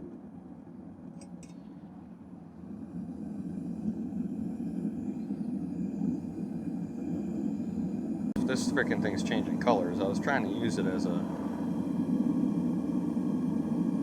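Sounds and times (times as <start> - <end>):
propane burner rushing: 2.5 - 14.0.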